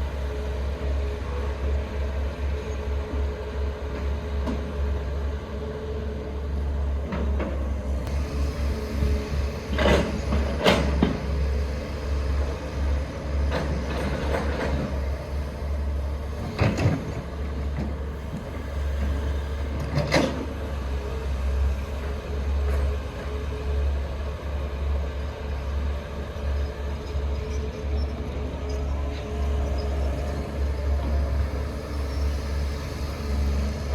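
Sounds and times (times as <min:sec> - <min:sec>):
diesel engine rumbling: 0:00.0 - 0:33.9.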